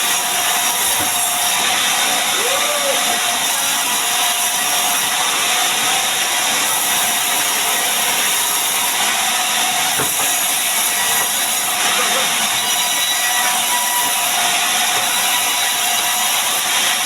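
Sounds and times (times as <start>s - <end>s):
power saw cutting wood: 0.0s - 17.0s.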